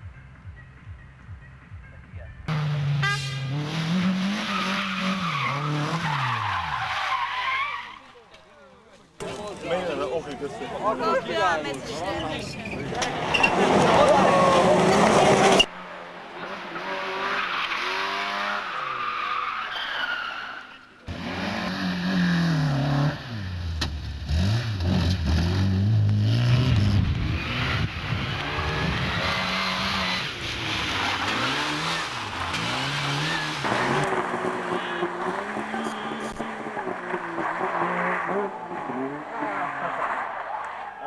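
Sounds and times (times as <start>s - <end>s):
rally car engines revving: 2.5s - 8.1s, 9.2s - 41.0s
tyres skidding: 2.5s - 41.0s.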